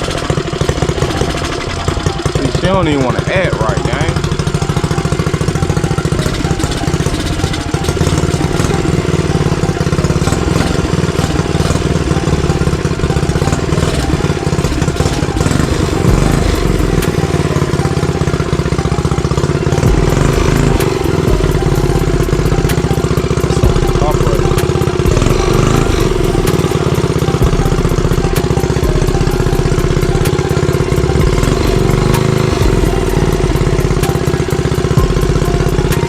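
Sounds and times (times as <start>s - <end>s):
small gas engine running: 0.0s - 36.0s.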